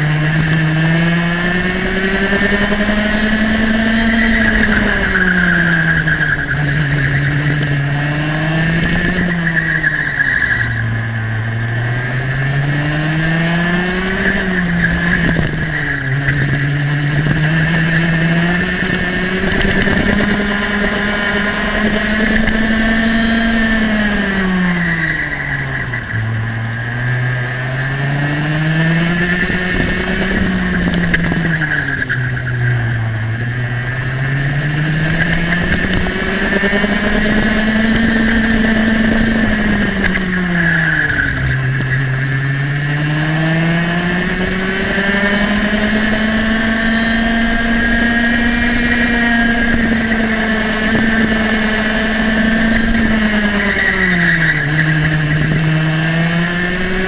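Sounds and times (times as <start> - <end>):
kart engine at high revs: 0.0 - 57.0.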